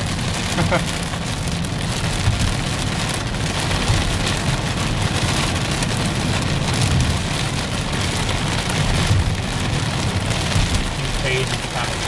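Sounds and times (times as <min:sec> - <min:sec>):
car rumbling on road: 0:00.0 - 0:12.0
hail and rain pelting car: 0:00.0 - 0:12.0.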